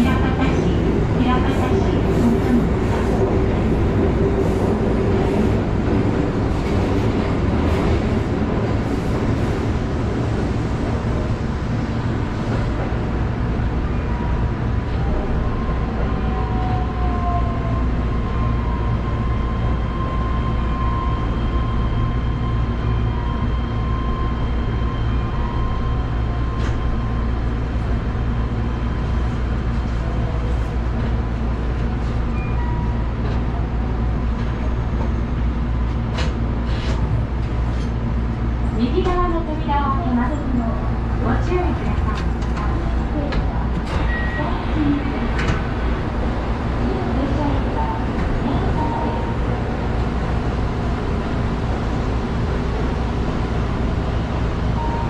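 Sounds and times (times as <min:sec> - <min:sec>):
low train rumble: 0:00.0 - 0:55.0.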